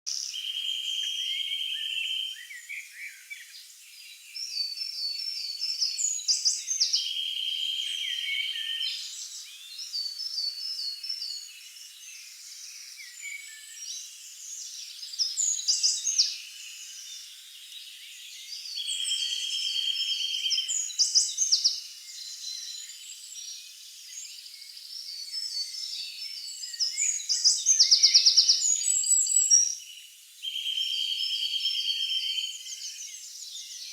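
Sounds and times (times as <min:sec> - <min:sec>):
birds singing: 0:00.1 - 0:33.9.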